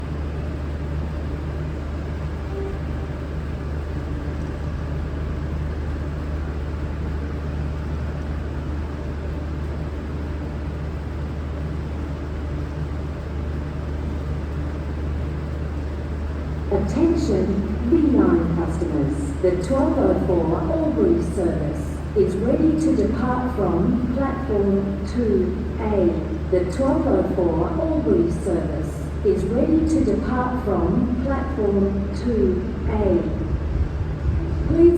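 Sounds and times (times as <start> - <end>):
diesel railcar engines idling: 0.0 - 34.9.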